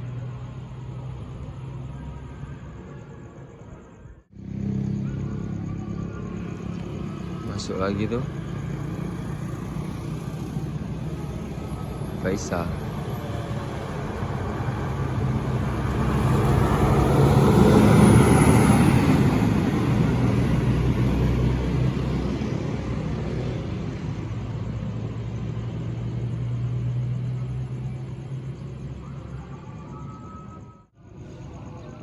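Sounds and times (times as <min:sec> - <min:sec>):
bus driving past: 0:00.0 - 0:32.0
low engine hum: 0:00.0 - 0:32.0.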